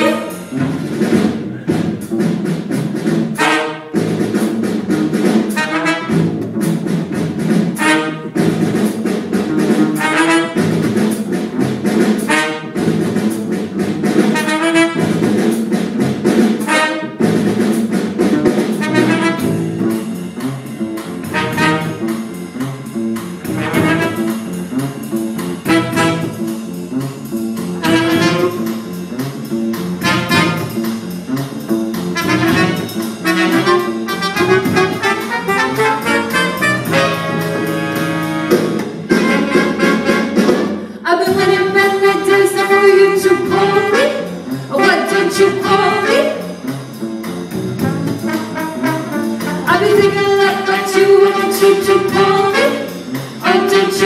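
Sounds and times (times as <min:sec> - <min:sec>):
jazz big band playing: 0:00.0 - 0:54.0.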